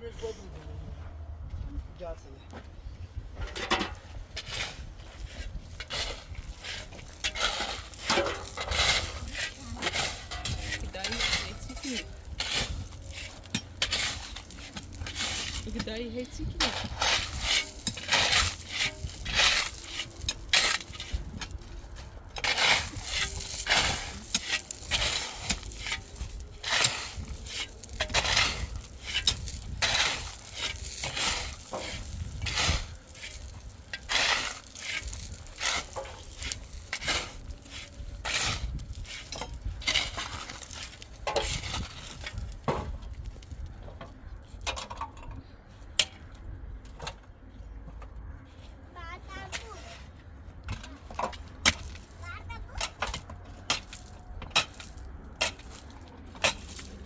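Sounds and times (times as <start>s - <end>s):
scraping and clattering strokes: 3.4s - 43.5s, 49.3s - 57.0s.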